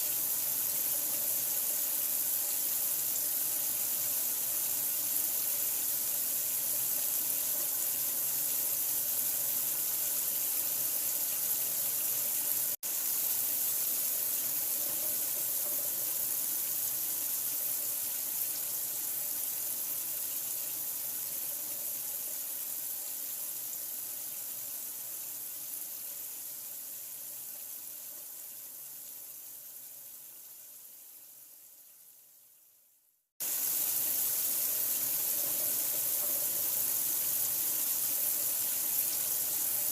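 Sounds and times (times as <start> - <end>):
running water hissing: 0.0 - 32.1, 33.4 - 39.9.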